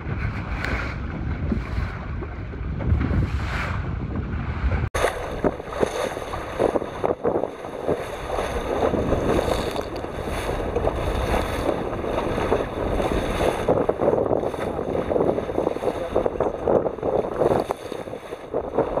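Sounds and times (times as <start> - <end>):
water splashing along boat hull: 0.0 - 19.0
wind buffeting microphone: 0.0 - 19.0.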